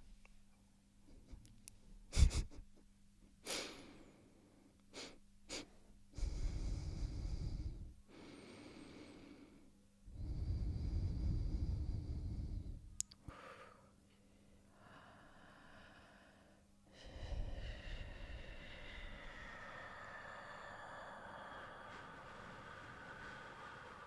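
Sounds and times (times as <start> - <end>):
person breathing heavily: 3.4 - 4.3, 5.0 - 24.0.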